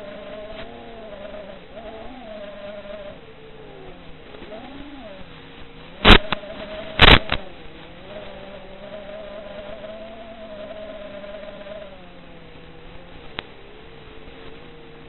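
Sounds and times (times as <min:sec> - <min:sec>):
quadcopter motors buzzing: 0:00.0 - 0:15.0.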